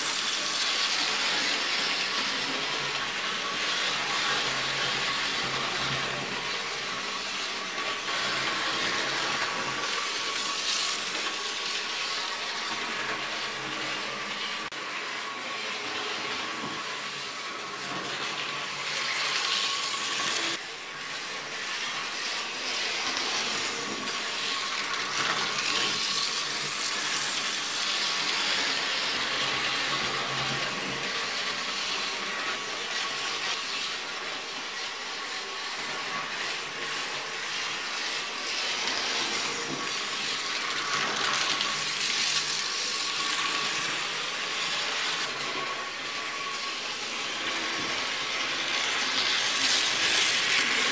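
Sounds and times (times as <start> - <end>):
model train motor whine: 0.0 - 50.9.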